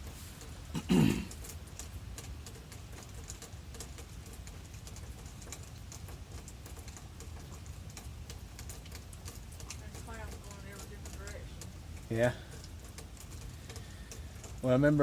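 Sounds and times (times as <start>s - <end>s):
rain pattering and dripping: 0.0s - 15.0s.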